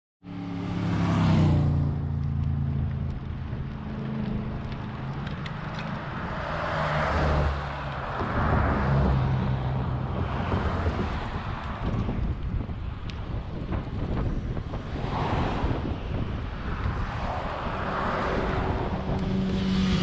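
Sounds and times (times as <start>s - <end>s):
motorcycle passing: 0.2s - 12.4s, 14.0s - 20.0s
traffic engine hum: 0.2s - 20.0s
tyre and wind noise: 1.1s - 20.0s.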